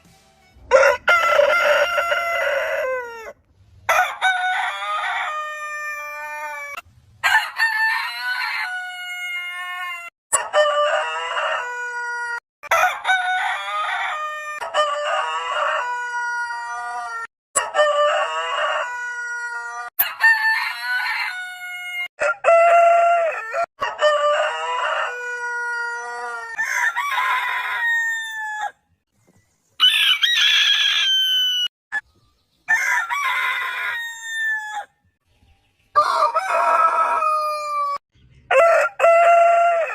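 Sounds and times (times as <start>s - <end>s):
roosters crowing: 0.7s - 28.8s, 29.8s - 31.7s, 32.7s - 35.0s, 35.9s - 39.9s.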